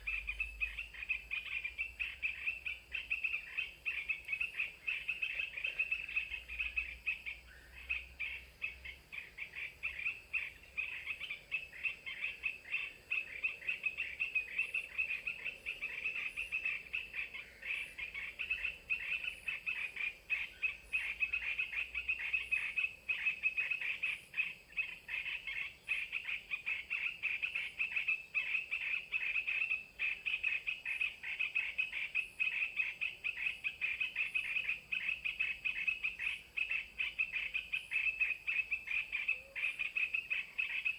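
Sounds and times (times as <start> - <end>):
chorus of rapid animal chirping: 0.0 - 40.9.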